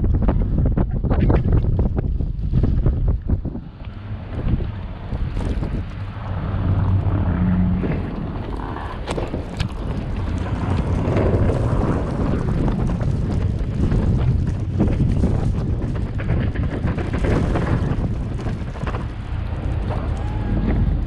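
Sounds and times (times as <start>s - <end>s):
wind buffeting microphone: 0.0s - 21.0s
snowplow engine running: 3.6s - 21.0s.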